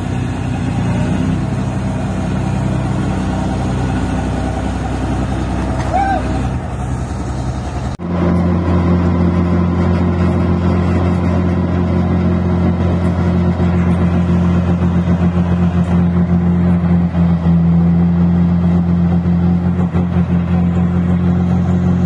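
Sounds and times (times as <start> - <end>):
harvester diesel engine running: 0.0 - 22.0.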